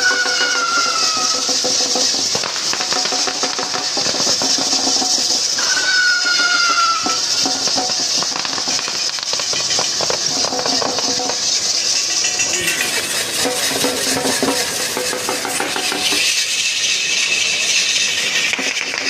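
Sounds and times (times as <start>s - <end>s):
metal wheel clattering: 0.0s - 19.0s.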